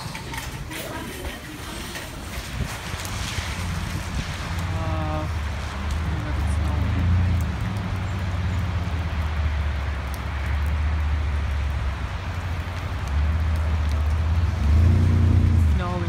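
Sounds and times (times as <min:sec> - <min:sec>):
car traffic on wet road: 0:00.0 - 0:16.0.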